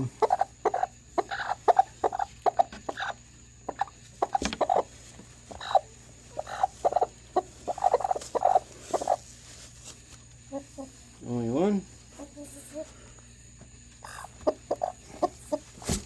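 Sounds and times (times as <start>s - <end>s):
hens clucking: 0.0s - 11.4s, 13.7s - 16.0s.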